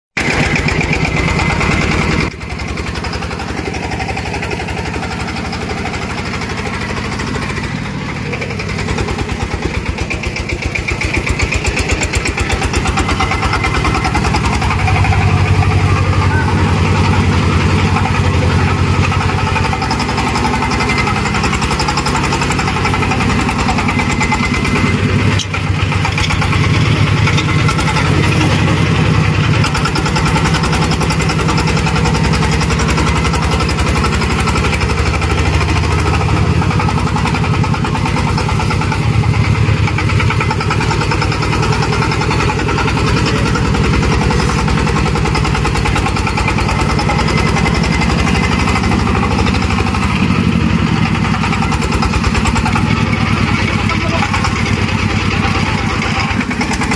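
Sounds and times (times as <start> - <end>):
engine running steadily: 0.2 - 56.9.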